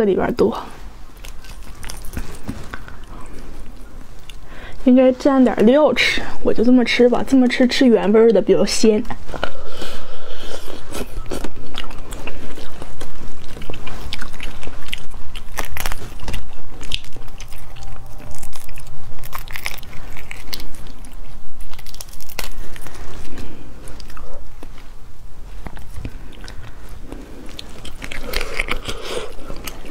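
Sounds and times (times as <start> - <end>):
crunchy chewing: 0.9 - 4.8, 9.1 - 29.9.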